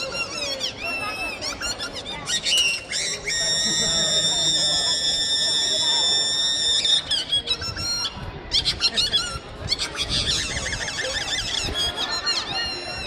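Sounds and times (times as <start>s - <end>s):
high-pitched squeaky chirps: 0.0s - 13.0s.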